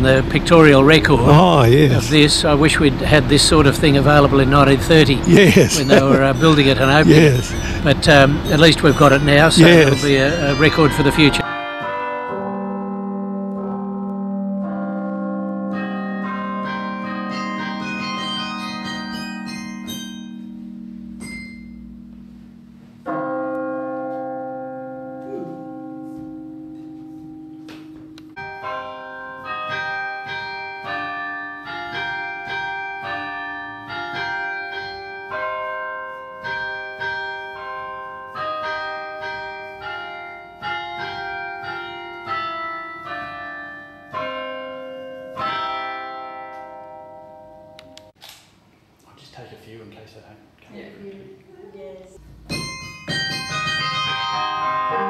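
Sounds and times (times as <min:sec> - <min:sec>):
carillon bells playing music: 0:04.0 - 0:48.2, 0:52.2 - 0:55.0.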